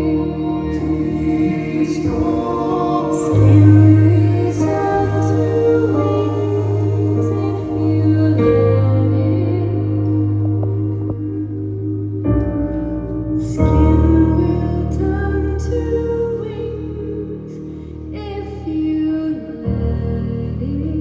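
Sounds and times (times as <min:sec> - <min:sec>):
live band sustained chords: 0:00.0 - 0:21.0.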